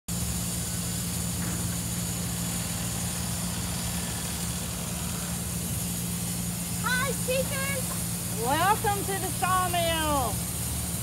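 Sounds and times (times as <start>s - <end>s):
heavy engine low hum: 0.1s - 11.0s
hiss: 0.1s - 11.0s.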